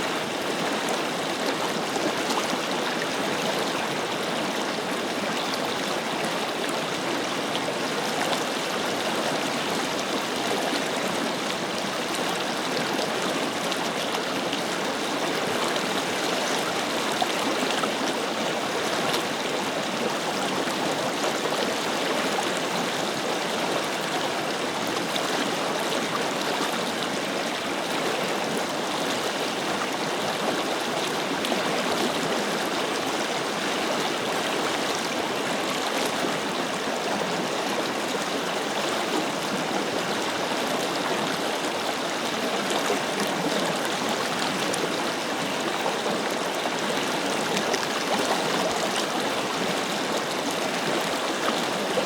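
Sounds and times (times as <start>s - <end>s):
river water over rocks: 0.0s - 52.0s.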